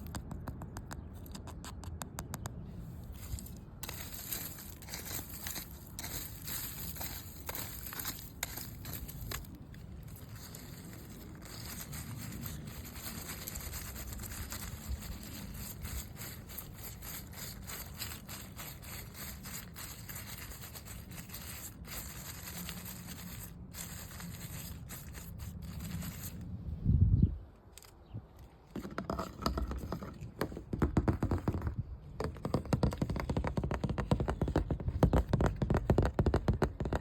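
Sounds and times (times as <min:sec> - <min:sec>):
fingernails scratching a surface: 0:03.2 - 0:26.4, 0:29.0 - 0:37.0.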